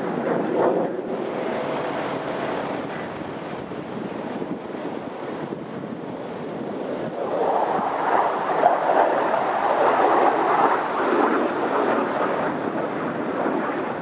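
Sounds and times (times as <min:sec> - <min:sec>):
distant jet engine rushing: 0:00.0 - 0:14.0.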